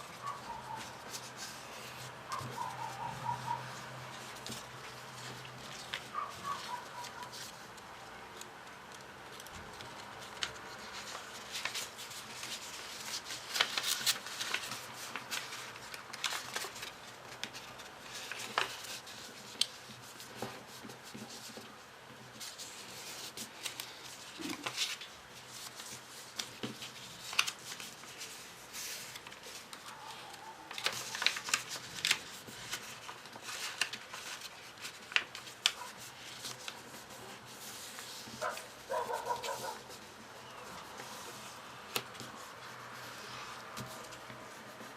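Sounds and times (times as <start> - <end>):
paper rustling and crinkling: 0.0 - 44.9.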